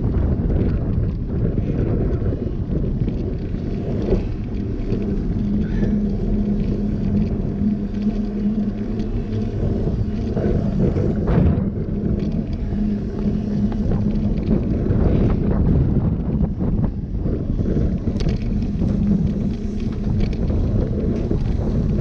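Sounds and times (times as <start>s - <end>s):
bike tyre rolling on asphalt: 0.0s - 22.0s
wind buffeting microphone: 0.0s - 22.0s.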